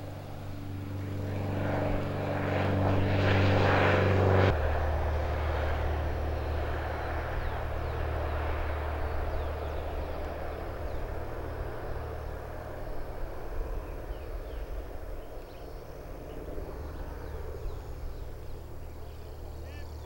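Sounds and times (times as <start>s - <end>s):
airplane engine droning: 0.0s - 20.0s.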